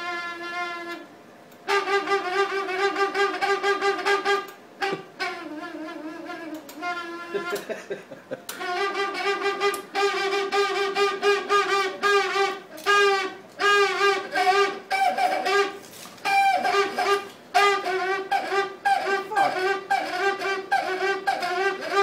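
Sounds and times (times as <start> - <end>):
extractor fan squealing whistle: 0.0 - 7.8, 8.5 - 22.0.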